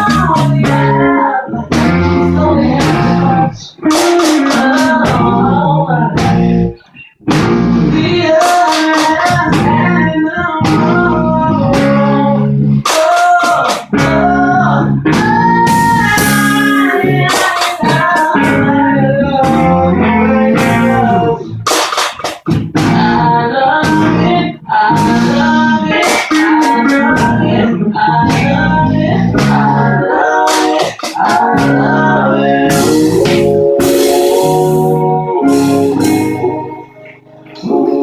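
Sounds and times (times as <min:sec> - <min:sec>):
person singing: 0:00.0 - 0:07.2, 0:07.9 - 0:21.7, 0:22.8 - 0:38.0
guitar: 0:00.0 - 0:38.0
live band playing: 0:00.0 - 0:38.0.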